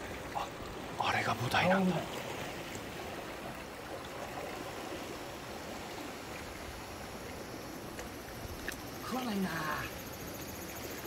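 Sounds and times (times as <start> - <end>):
sea water washing and hissing: 0.0 - 11.0.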